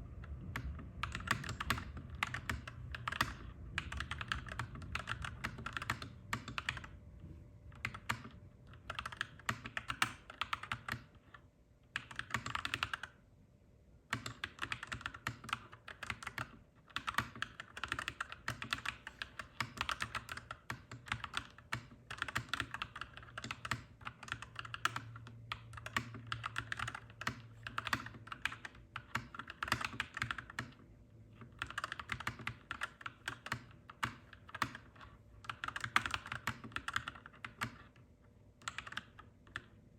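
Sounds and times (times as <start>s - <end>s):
faint low hum: 0.0s - 39.9s
mechanical keyboard typing: 0.5s - 6.9s, 7.7s - 13.2s, 14.1s - 38.0s, 38.6s - 39.8s.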